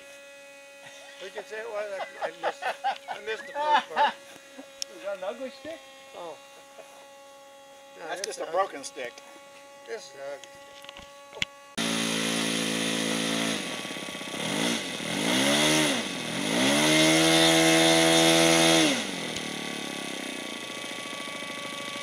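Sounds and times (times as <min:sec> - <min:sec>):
model airplane engine revving: 0:00.0 - 0:22.0.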